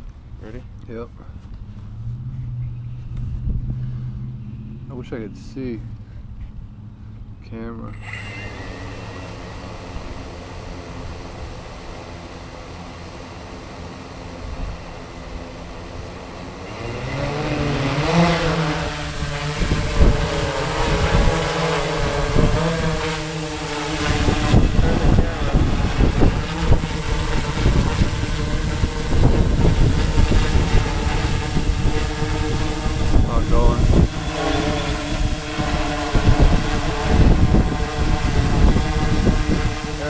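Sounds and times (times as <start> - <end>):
drone propellers humming: 0.0 - 40.0
rotor downwash rumbling on microphone: 1.6 - 7.9, 8.7 - 40.0.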